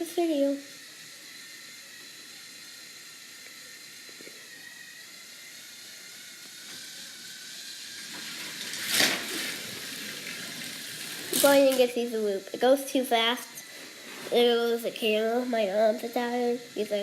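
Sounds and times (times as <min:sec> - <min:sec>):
model roller coaster hissing: 0:00.0 - 0:17.0.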